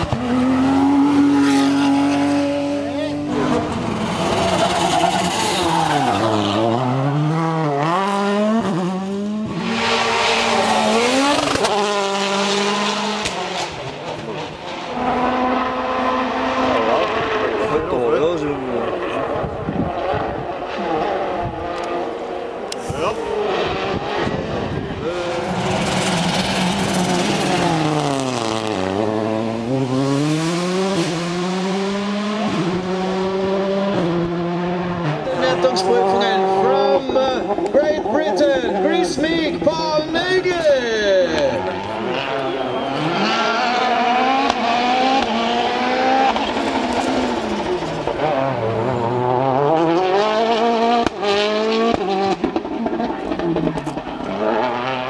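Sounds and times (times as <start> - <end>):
car engine revving hard: 0.0 - 39.6, 41.3 - 55.0.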